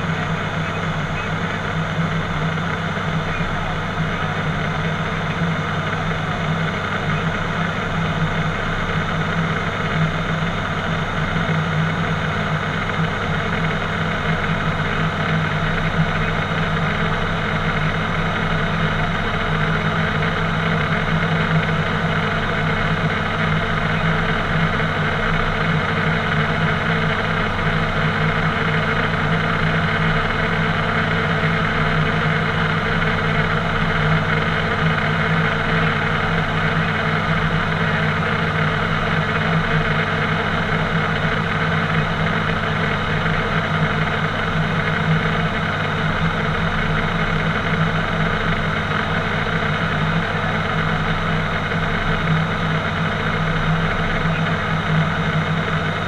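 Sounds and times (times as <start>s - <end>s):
propeller engines droning: 0.0s - 56.0s.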